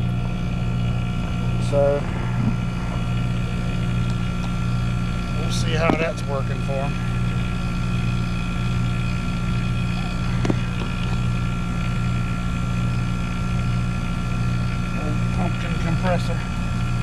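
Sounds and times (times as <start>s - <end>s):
air conditioner humming: 0.0s - 17.0s
high whine: 0.0s - 17.0s.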